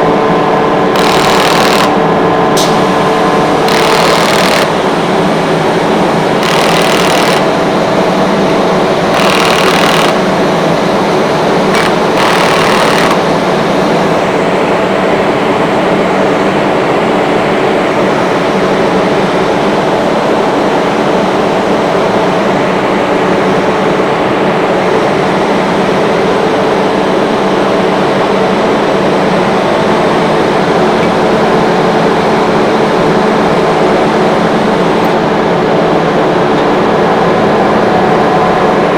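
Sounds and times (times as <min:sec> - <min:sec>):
air compressor drone: 0:00.0 - 0:38.9.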